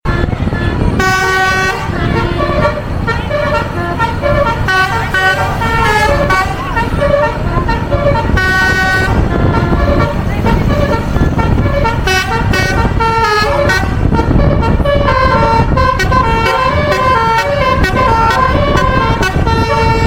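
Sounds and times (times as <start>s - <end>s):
low rumble of engines and traffic: 0.0s - 20.0s
multi-tone bus air horn tune: 0.1s - 20.0s.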